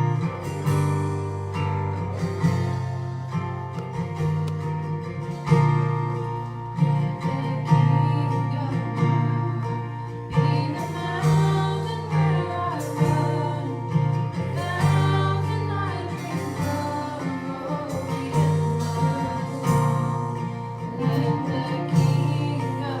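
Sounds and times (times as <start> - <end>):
acoustic guitar strumming: 0.0 - 23.0
bass line: 0.0 - 23.0.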